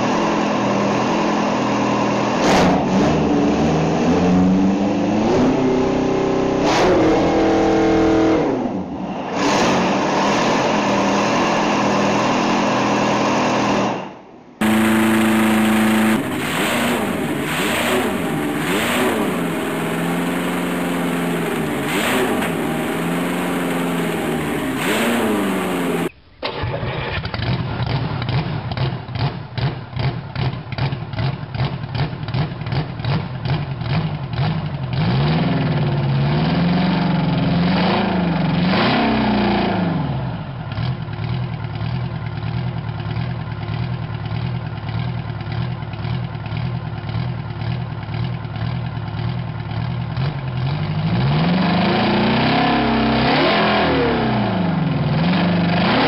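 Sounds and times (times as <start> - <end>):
engine revving: 0.0 - 41.0, 50.2 - 56.0
diesel engine starting and running: 0.0 - 56.0.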